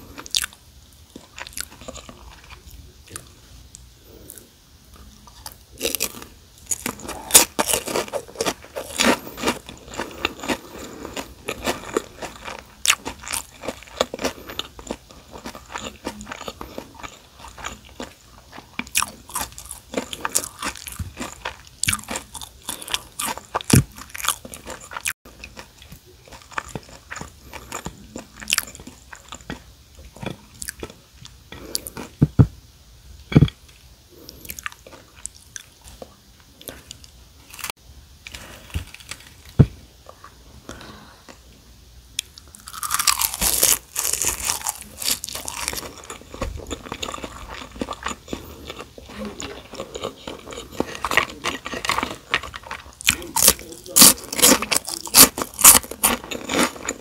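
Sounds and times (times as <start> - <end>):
crunching and chewing chips: 0.0 - 3.4, 4.1 - 32.2, 33.3 - 41.4, 42.2 - 57.0.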